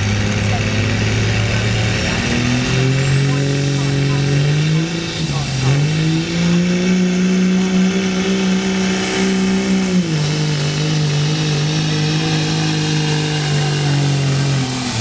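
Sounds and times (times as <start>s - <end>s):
diesel truck engine at full throttle: 0.0s - 15.0s
high turbo whine: 0.0s - 15.0s.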